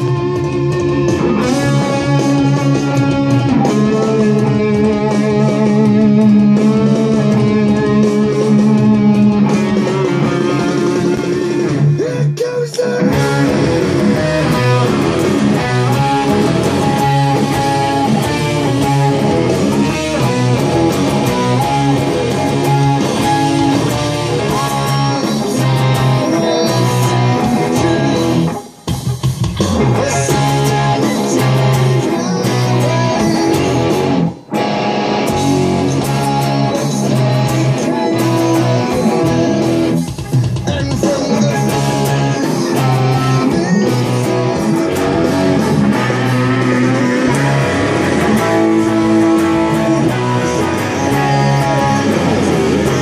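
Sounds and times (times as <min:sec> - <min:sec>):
electric guitar rock riff: 0:00.0 - 0:53.0.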